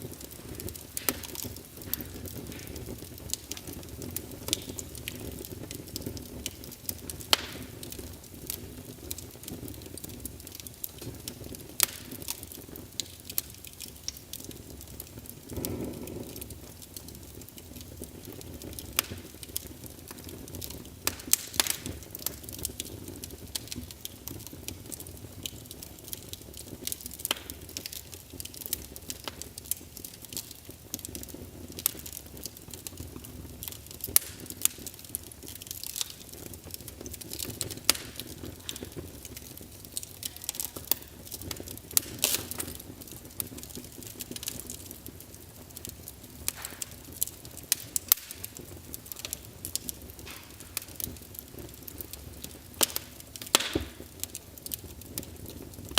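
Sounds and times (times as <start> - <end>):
burning wood crackling and popping: 0.0 - 55.9
low rumble of flames: 0.0 - 55.9.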